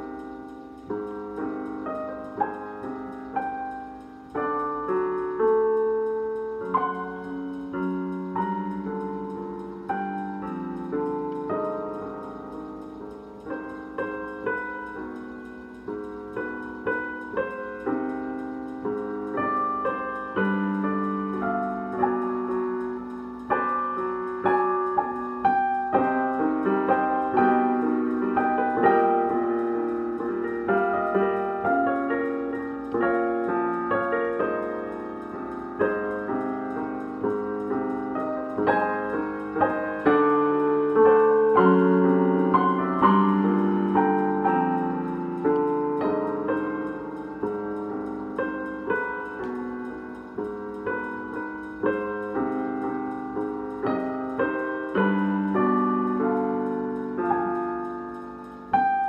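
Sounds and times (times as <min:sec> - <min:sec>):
digital piano chords and melody: 0:00.0 - 0:59.0.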